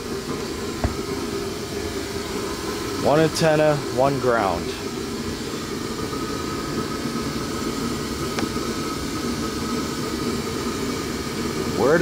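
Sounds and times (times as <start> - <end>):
low mechanical whir: 0.0 - 12.0.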